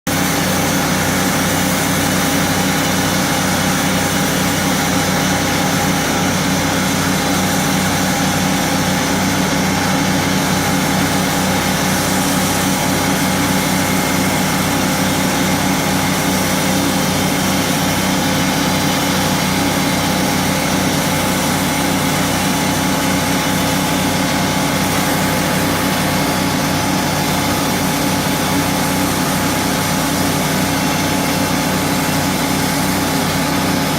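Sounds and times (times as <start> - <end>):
saw cutting through log: 0.1 - 33.9
sawmill engine running: 0.1 - 33.9.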